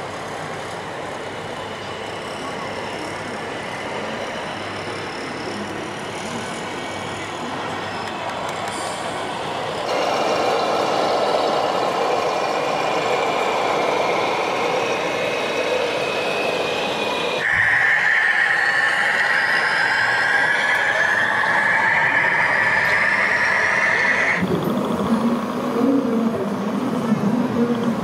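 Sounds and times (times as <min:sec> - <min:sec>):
busy hall din: 0:00.0 - 0:28.0
model trucks droning: 0:00.0 - 0:28.0.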